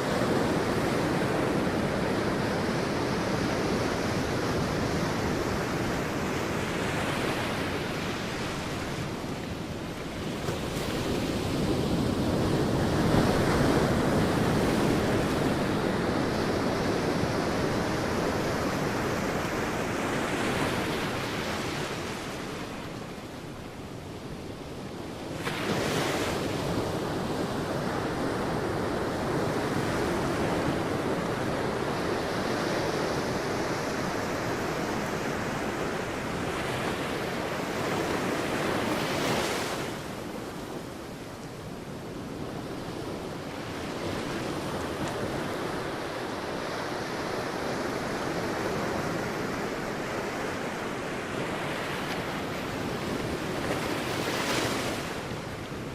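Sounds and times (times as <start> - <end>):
waves crashing on a beach: 0.0 - 55.9.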